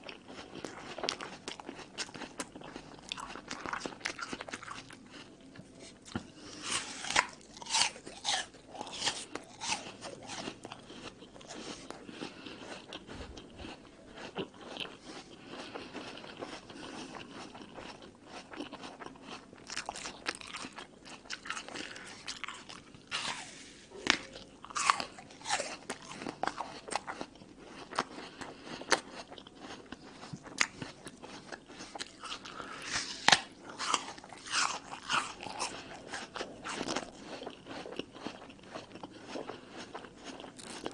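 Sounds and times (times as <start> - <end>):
wet chewing: 0.0 - 40.9
apple crunching bites: 0.3 - 40.9.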